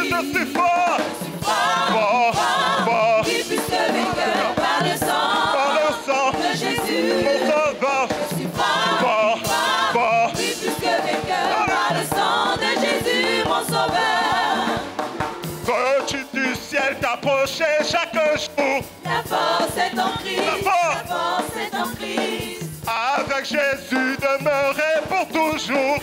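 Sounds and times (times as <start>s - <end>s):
band accompaniment with steady beat: 0.0s - 26.0s
choir singing a gospel hymn: 0.0s - 26.0s.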